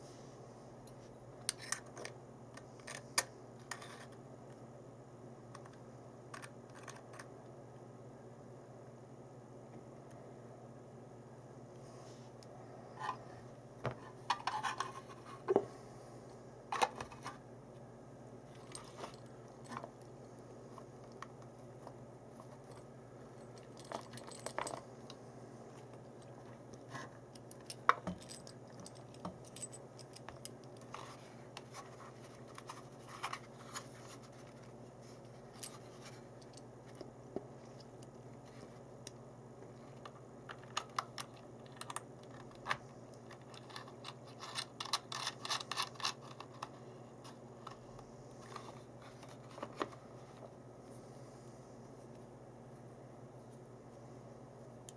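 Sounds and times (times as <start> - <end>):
faint steady low hum: 0.0 - 54.9.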